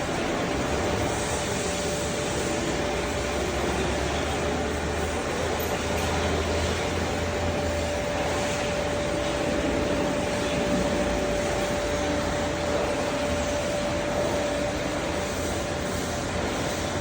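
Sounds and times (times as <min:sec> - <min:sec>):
machine running with whine: 0:00.0 - 0:17.0.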